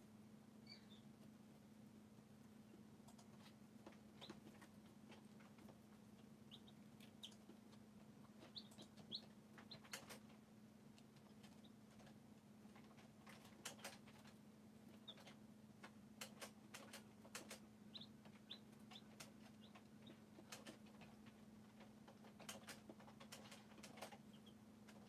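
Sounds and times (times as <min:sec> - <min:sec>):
low steady hum: 0:00.0 - 0:25.0
chicks peeping: 0:00.6 - 0:01.6, 0:02.5 - 0:25.0
chicks tapping and rustling in straw: 0:00.9 - 0:25.0.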